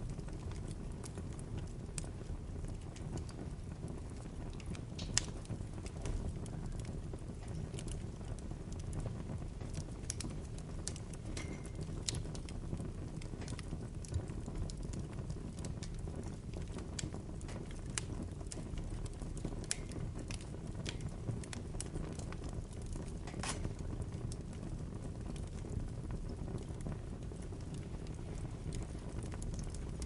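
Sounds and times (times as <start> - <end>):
bonfire crackling: 0.0 - 30.0
fire rushing: 0.0 - 30.0.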